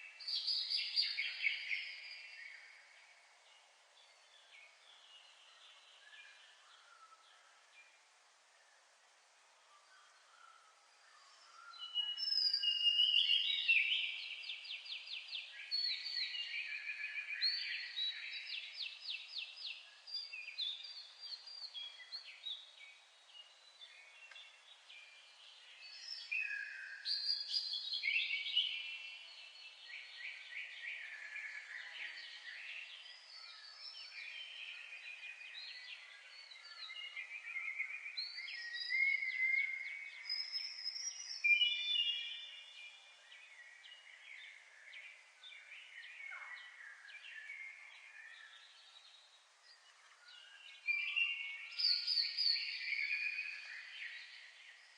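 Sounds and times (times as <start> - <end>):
songbirds singing trills: 0.0 - 54.9.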